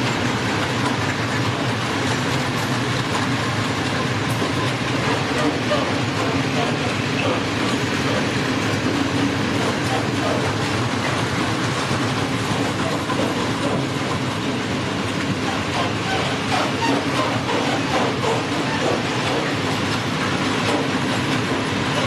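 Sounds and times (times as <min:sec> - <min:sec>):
freight wagons clattering: 0:00.0 - 0:22.0
train wheels rumbling on rails: 0:00.0 - 0:22.0.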